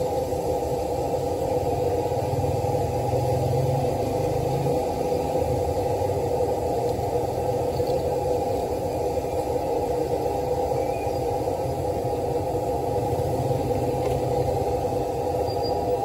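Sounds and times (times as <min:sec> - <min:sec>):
faint hum: 0:00.0 - 0:16.0
low rumble of background noise: 0:00.0 - 0:16.0.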